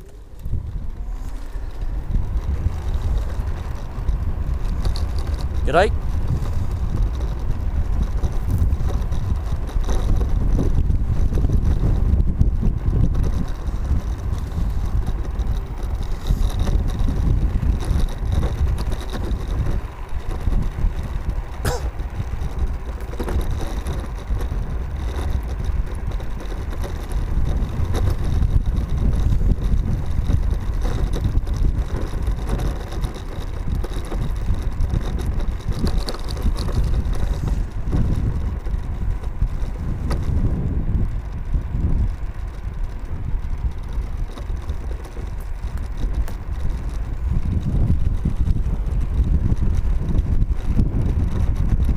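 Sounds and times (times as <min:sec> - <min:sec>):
road and tyre rumble: 0:00.0 - 0:51.9
wind buffeting microphone: 0:00.0 - 0:51.9.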